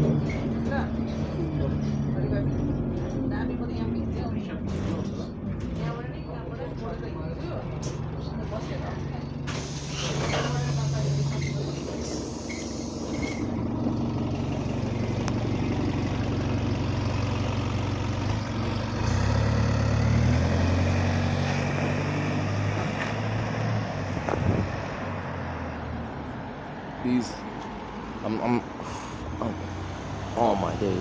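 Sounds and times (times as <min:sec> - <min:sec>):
bus diesel engine: 0:00.0 - 0:31.0.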